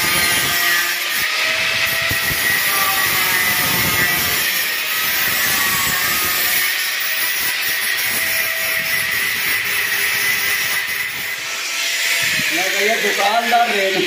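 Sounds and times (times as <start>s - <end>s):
angle grinder cutting metal: 0.0s - 14.0s.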